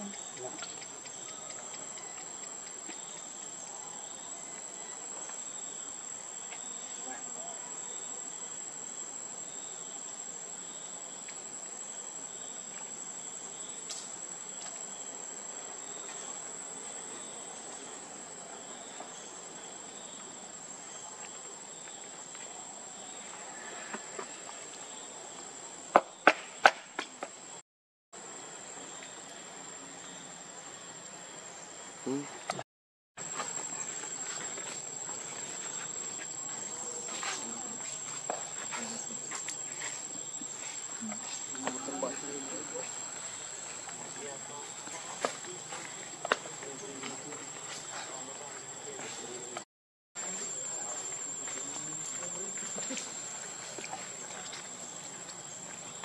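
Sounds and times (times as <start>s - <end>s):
insects droning: 0.0s - 27.6s, 28.2s - 32.6s, 33.2s - 56.0s.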